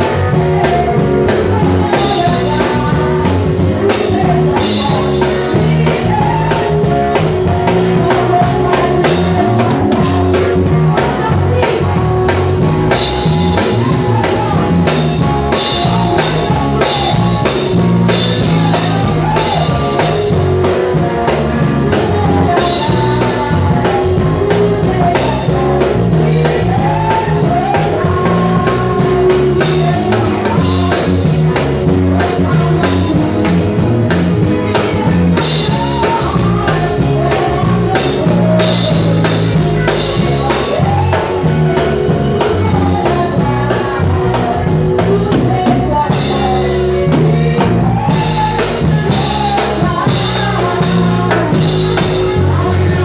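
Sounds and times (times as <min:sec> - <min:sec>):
band playing: 0:00.0 - 0:53.0
person singing: 0:00.0 - 0:53.0.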